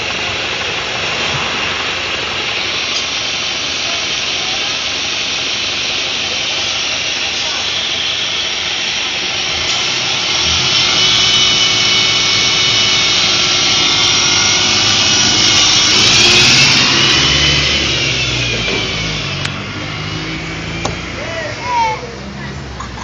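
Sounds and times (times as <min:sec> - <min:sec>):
bus diesel engine high whine: 0:00.0 - 0:23.0
low engine hum: 0:00.0 - 0:23.0.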